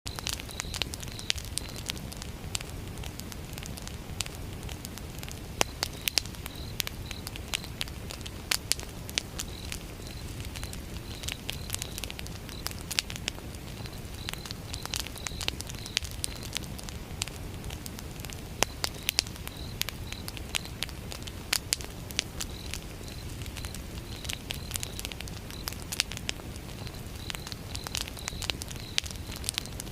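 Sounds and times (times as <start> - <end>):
campfire crackling: 0.1 - 29.9.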